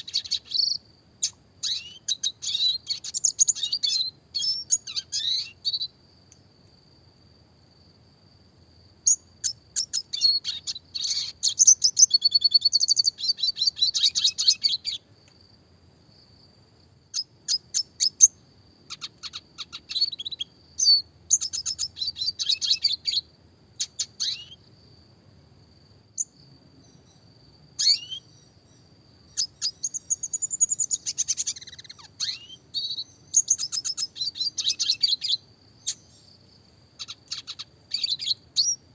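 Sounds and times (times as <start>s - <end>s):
bird twittering trills: 0.0s - 6.0s, 9.0s - 15.0s, 17.1s - 24.6s, 26.2s - 36.4s, 37.0s - 38.9s.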